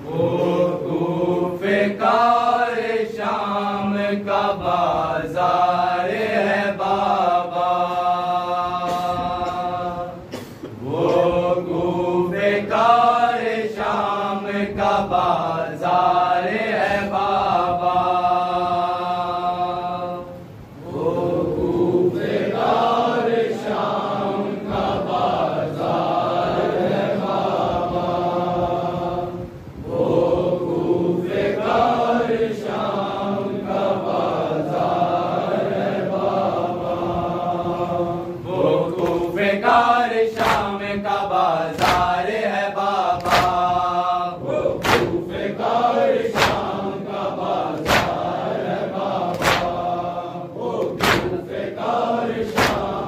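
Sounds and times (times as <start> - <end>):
men chanting a lament: 0.0 - 53.0.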